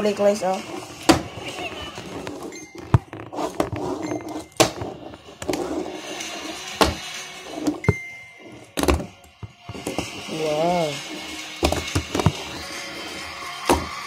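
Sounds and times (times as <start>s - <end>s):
fingerboard wheels scraping: 0.0s - 14.0s.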